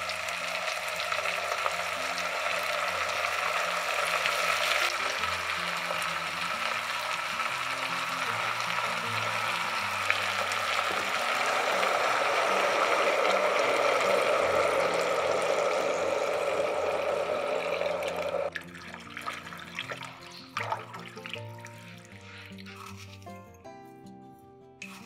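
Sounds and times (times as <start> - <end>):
water running from a tap: 0.0 - 23.0
soft background music: 0.0 - 25.0.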